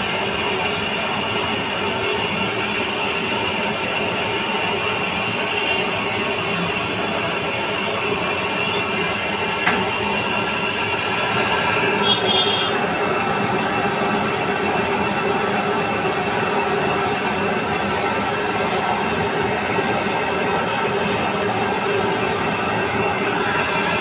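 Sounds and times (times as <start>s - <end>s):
steady machine noise with tones: 0.0s - 24.0s.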